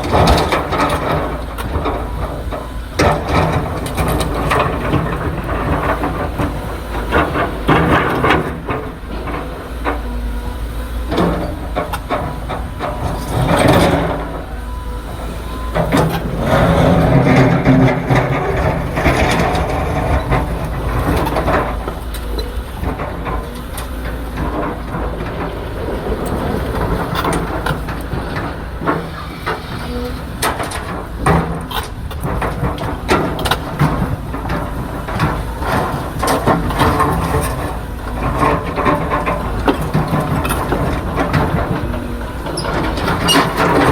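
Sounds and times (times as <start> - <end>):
excavator diesel engine running: 0.0 - 43.9
metallic clanks and knocks: 0.0 - 43.9.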